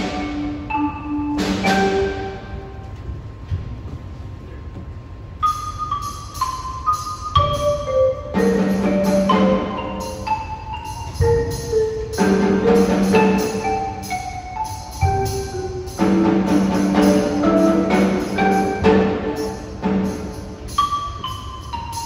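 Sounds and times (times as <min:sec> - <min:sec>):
marimbas playing: 0:00.0 - 0:03.4, 0:05.2 - 0:22.0.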